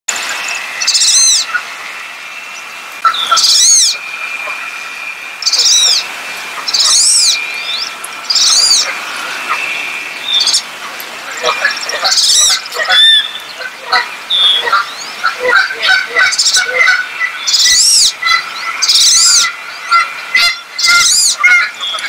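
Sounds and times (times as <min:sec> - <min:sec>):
wood duck squealing calls: 0:00.8 - 0:01.6, 0:03.0 - 0:04.8, 0:05.4 - 0:06.0, 0:06.6 - 0:10.7, 0:11.3 - 0:22.0.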